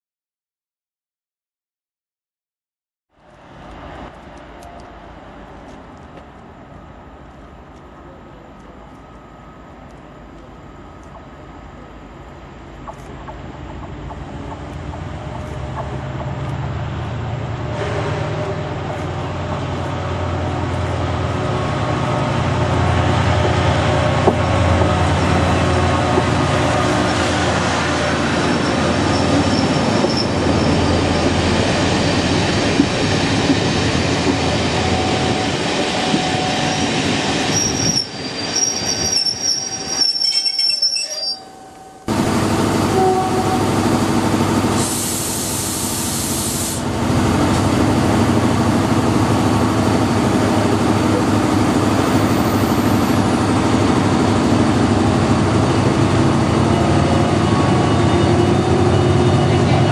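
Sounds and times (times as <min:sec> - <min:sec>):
diesel locomotive approaching: 0:03.1 - 0:59.9
train coaches rolling on rails: 0:03.2 - 0:59.9.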